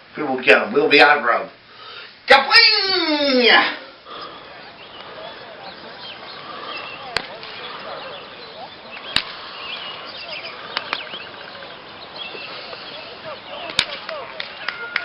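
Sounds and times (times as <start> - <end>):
many birds chirping: 1.7 - 15.0.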